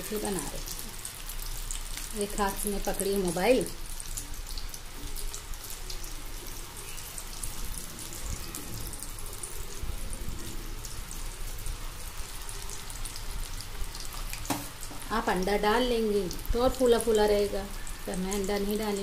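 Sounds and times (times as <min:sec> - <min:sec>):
deep-frying crackling sizzle: 0:00.0 - 0:19.0.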